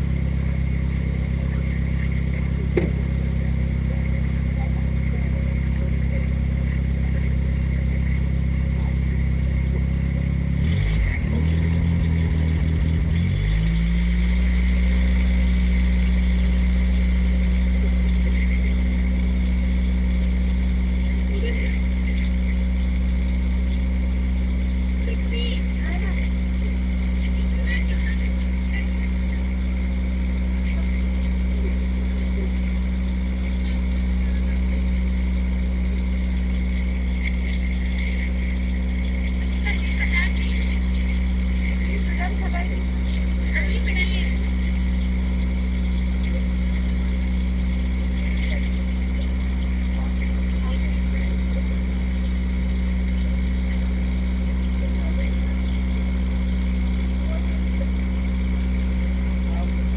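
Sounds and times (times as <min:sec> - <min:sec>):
boat motor running: 0:00.0 - 0:59.9.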